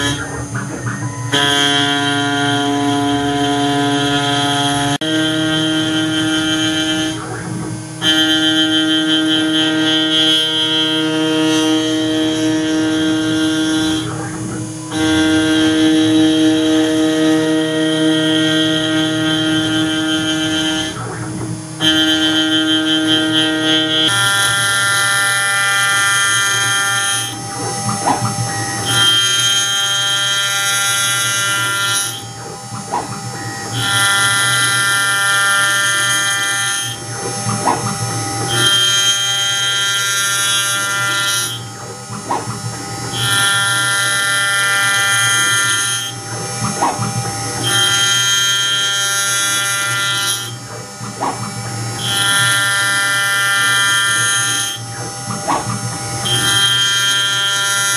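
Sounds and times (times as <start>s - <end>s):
milling spindle high-pitched whine: 0.0s - 57.9s.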